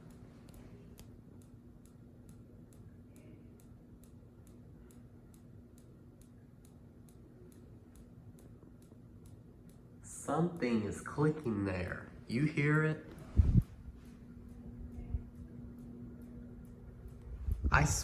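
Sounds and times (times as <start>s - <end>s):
ceiling fan clicking: 0.0s - 18.0s
ceiling fan low hum: 0.0s - 18.0s.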